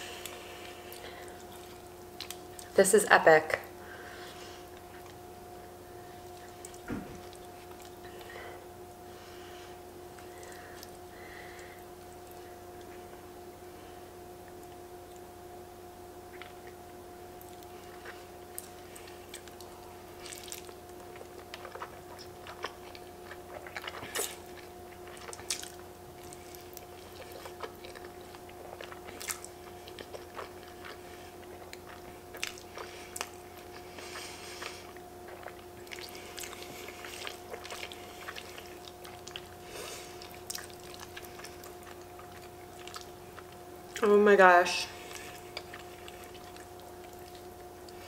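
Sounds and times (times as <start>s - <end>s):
wet chewing with mouth clicks: 0.0s - 2.8s, 4.3s - 5.2s, 6.2s - 13.2s, 16.3s - 44.2s, 44.8s - 48.0s
faint hum: 0.0s - 48.0s.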